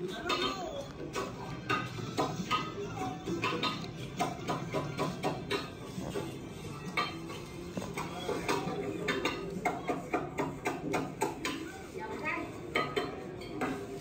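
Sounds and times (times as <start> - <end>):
plates and cutlery clinking: 0.0 - 14.0.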